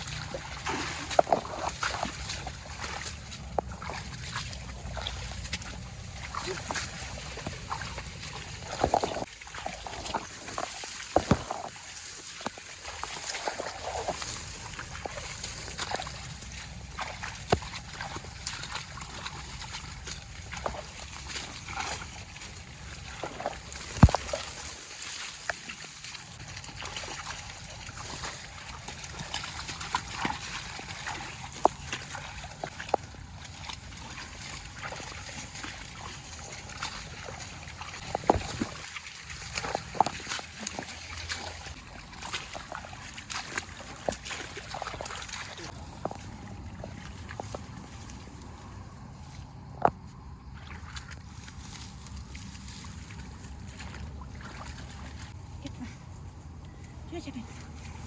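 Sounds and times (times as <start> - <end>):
water sloshing and splashing: 0.0 - 58.0.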